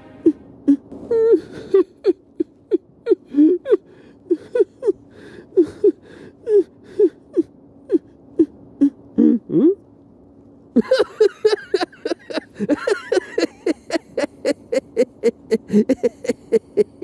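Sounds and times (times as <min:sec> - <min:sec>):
person crying in whimpering sobs: 0:00.2 - 0:09.8, 0:10.8 - 0:17.0.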